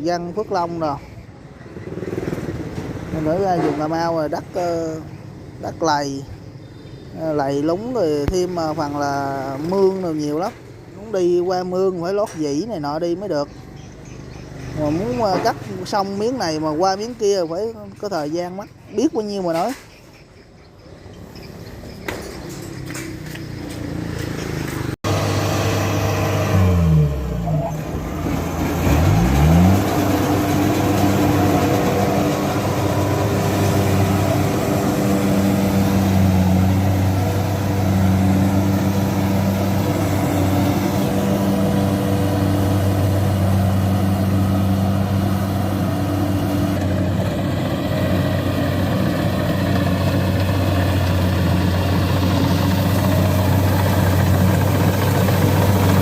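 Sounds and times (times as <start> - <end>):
combine harvester diesel engine: 7.4 - 19.8, 21.4 - 56.0.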